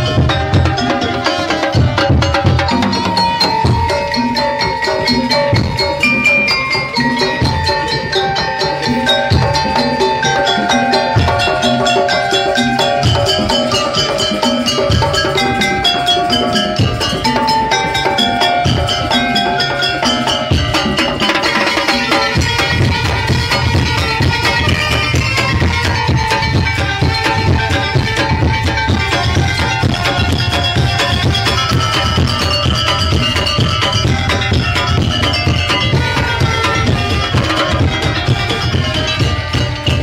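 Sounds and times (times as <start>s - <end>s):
drum beats: 0.0s - 40.0s
high melodic line: 0.0s - 40.0s.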